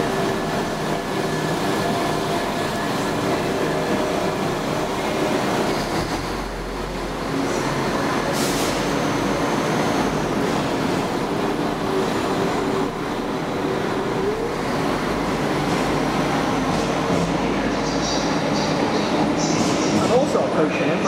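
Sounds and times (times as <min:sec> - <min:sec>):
diesel train passing: 0:00.0 - 0:21.0.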